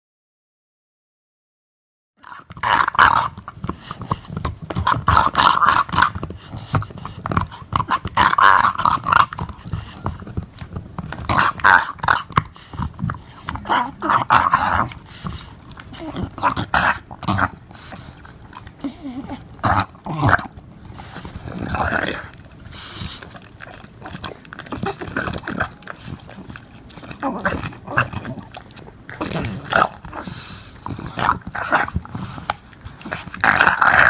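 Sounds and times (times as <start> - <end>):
dog growling: 2.2 - 34.0
teeth scraping on bone: 2.2 - 34.0.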